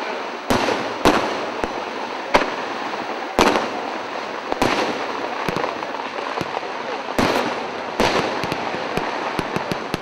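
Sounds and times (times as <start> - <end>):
fireworks bangs: 0.0 - 10.0
fireworks crackling: 0.0 - 10.0
fireworks pops: 0.5 - 10.0.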